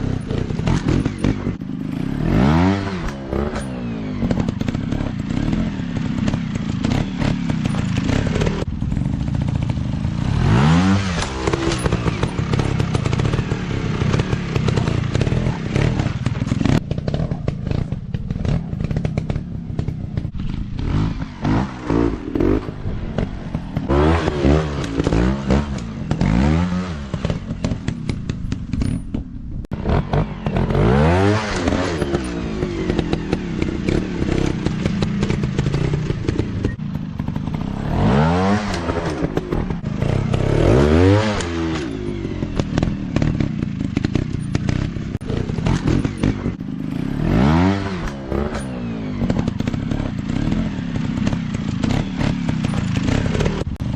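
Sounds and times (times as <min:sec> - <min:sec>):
dirt bike engine throttle blips: 0:00.0 - 0:53.9.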